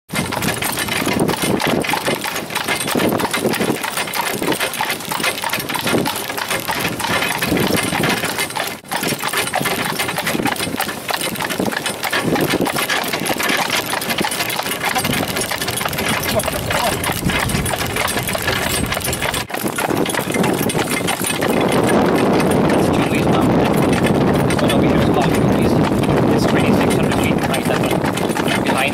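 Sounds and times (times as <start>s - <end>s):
cart rattling and rumbling: 0.1s - 28.9s
hoofbeats on tarmac: 0.1s - 28.9s.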